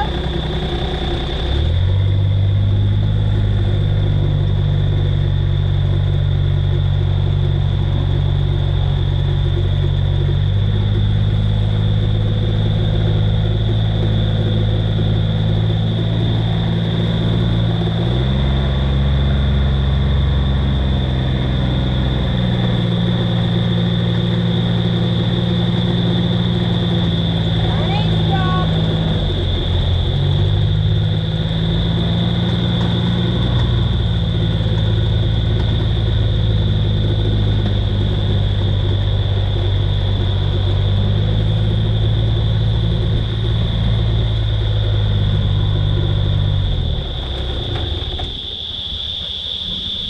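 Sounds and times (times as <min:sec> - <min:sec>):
steady high whine: 0:00.0 - 0:50.0
vehicle engine running: 0:00.0 - 0:50.0.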